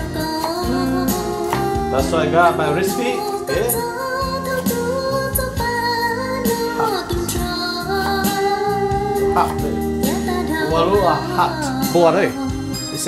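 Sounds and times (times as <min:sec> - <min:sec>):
woman singing: 0:00.0 - 0:12.9
held steady accompaniment: 0:00.0 - 0:13.0.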